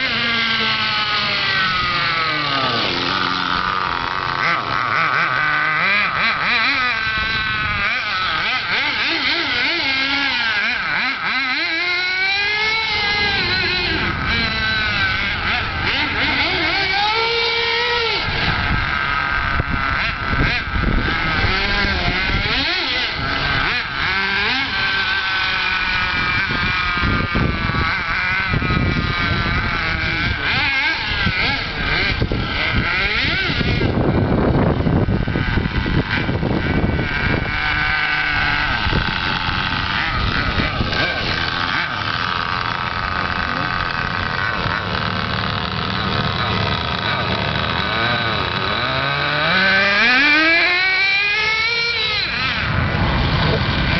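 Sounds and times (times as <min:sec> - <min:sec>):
model car engine revving: 0:00.0 - 0:53.9.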